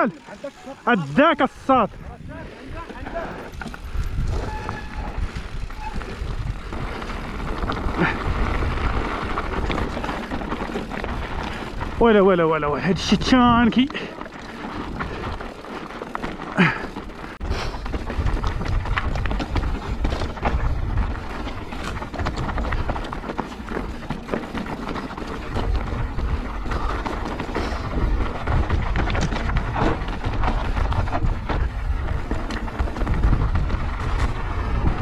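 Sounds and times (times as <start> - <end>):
wind rumbling on microphone: 1.1 - 35.0
bike clattering over stones: 2.8 - 35.0.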